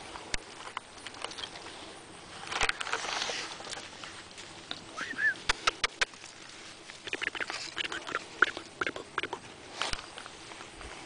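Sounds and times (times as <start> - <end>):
footsteps rustling in dry leaves: 0.0 - 8.8, 9.4 - 11.0.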